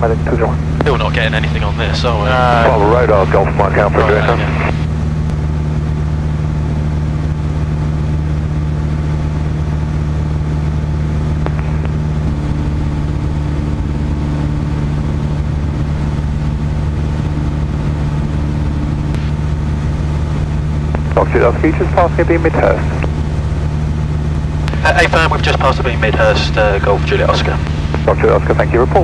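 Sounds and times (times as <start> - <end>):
light aircraft engine drone: 0.0 - 29.0.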